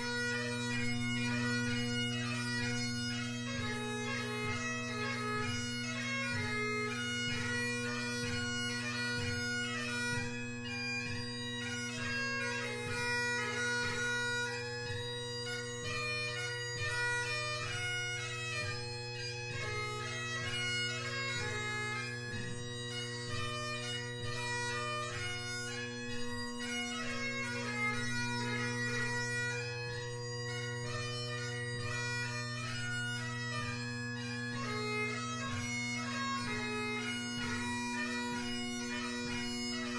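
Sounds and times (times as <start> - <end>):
bagpipe playing a tune: 0.0 - 39.9.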